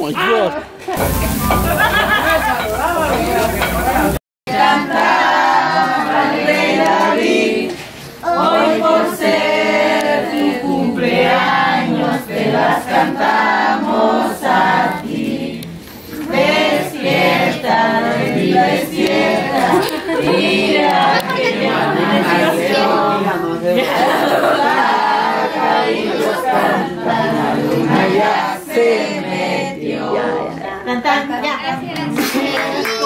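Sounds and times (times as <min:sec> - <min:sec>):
group of people singing: 0:01.0 - 0:33.0.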